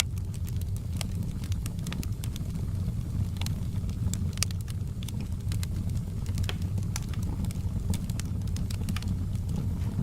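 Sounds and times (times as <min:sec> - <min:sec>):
low rumble of burning: 0:00.0 - 0:10.0
wood fire crackling and popping: 0:00.0 - 0:10.0.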